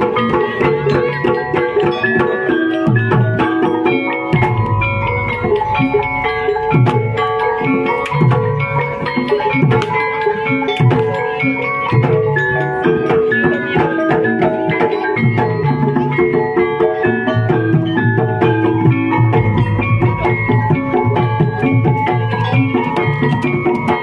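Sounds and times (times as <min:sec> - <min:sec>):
drum strokes: 0:00.0 - 0:24.0
gongs and metallophones ringing: 0:00.0 - 0:24.0.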